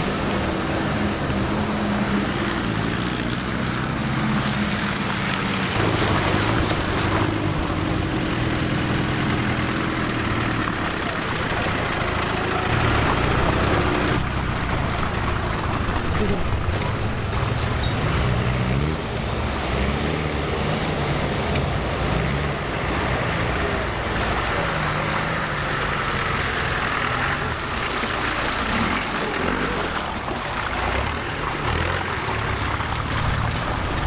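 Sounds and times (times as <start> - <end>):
vehicle engine revving: 0.0 - 34.0.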